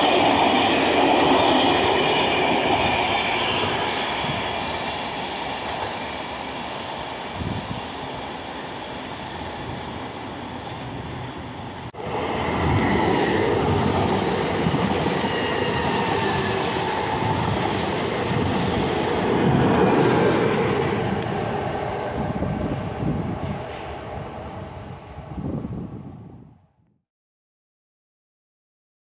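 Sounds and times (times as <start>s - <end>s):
train wheels rumbling on rails: 0.0s - 26.4s.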